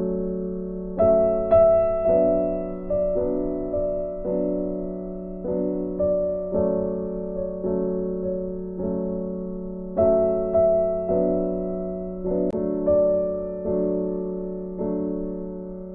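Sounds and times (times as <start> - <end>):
soft piano notes: 0.0 - 15.9.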